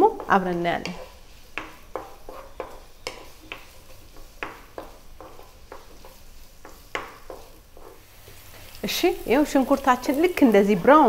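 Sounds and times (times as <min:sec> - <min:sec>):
onions sizzling in oil: 0:00.0 - 0:11.0
wooden spatula scraping frying pan: 0:00.0 - 0:11.0.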